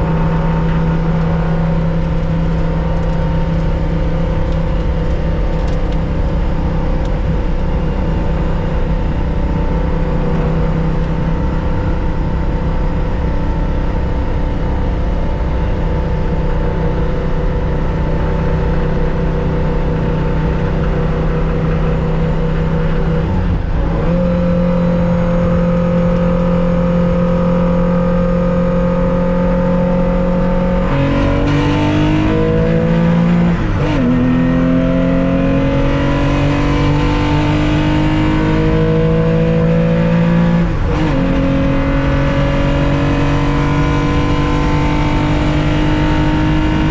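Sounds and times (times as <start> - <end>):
car engine under racing load: 0.0 - 46.9.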